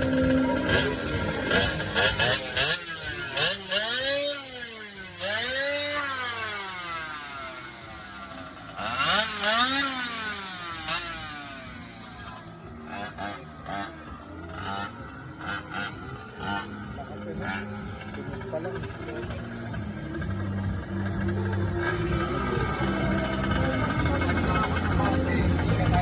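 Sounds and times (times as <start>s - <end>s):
scooter engine revving: 0.0s - 26.0s.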